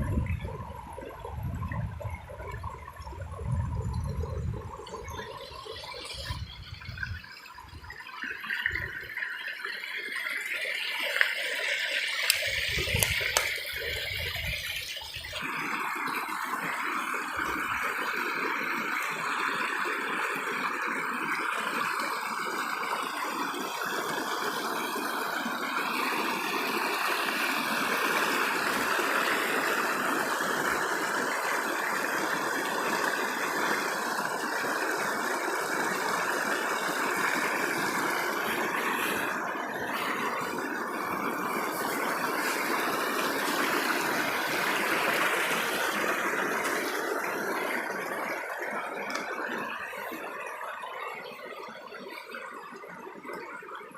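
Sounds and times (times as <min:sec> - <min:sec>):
rushing stream water: 0:00.0 - 0:53.9.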